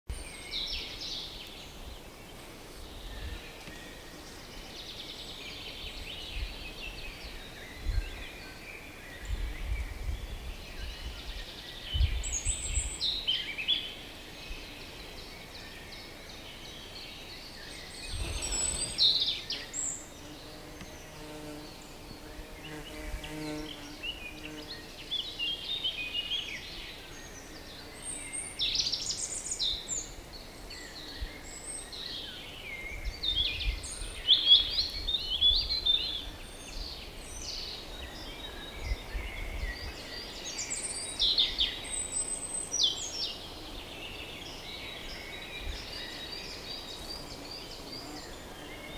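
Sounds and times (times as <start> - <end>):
songbirds singing: 0.1 - 48.9.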